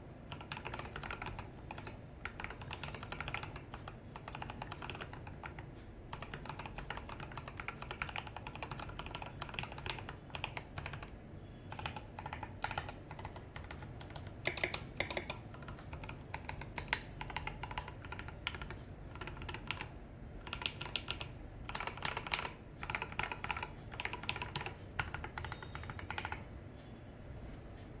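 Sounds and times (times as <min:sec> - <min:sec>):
mechanical keyboard typing: 0:00.3 - 0:26.5.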